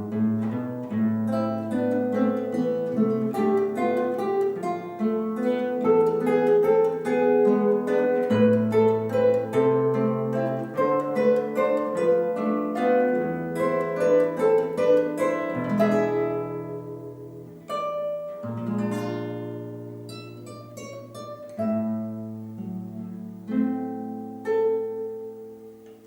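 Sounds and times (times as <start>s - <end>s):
plucked strings instrumental piece: 0.0s - 26.0s.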